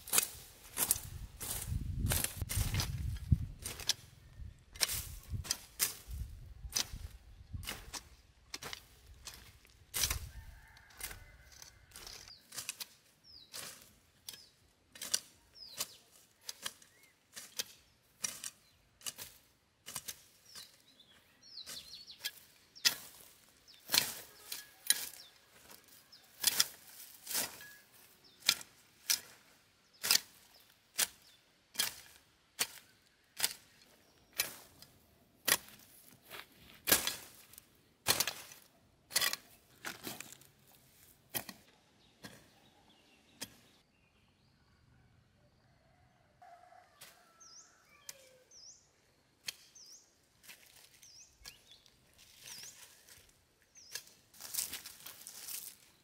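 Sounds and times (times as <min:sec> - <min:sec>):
sickle swishing through grass: 0:00.0 - 0:42.6, 0:49.4 - 0:56.0.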